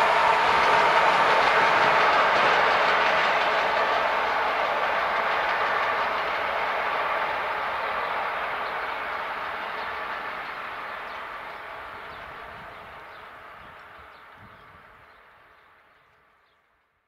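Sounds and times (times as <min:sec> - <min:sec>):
train wheels rumbling on rails: 0:00.0 - 0:16.6.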